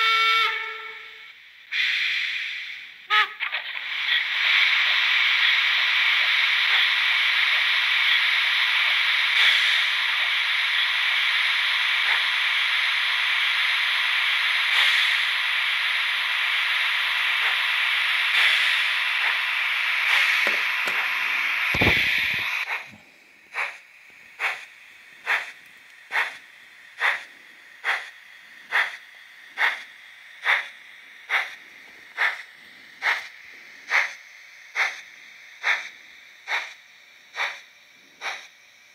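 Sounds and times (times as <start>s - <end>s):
model locomotive steam hiss: 0.0s - 38.9s
steam exhaust chuffs: 3.9s - 38.5s.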